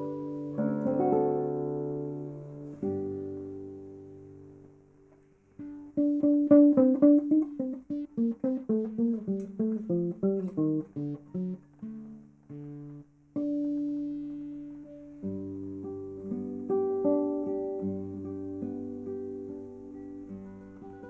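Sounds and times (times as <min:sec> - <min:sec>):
classical guitar played solo: 0:00.0 - 0:21.0.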